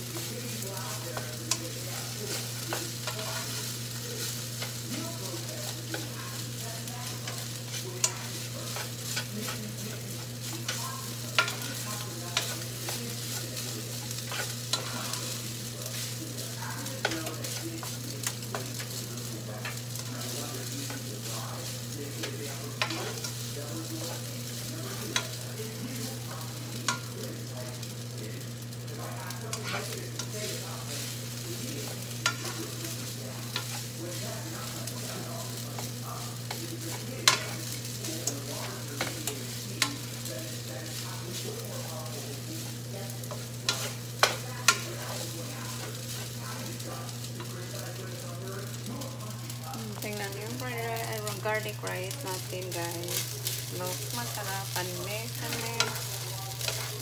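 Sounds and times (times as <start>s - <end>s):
rice sizzling in frying pan: 0.0s - 57.0s.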